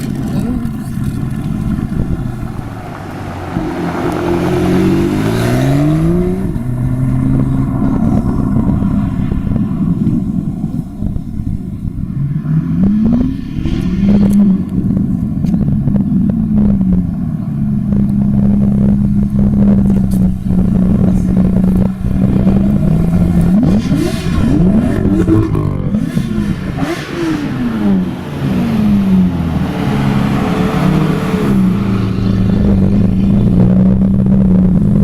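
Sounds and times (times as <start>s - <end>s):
engine revving: 0.0s - 10.0s, 12.0s - 35.0s
car engines idling: 0.0s - 35.0s.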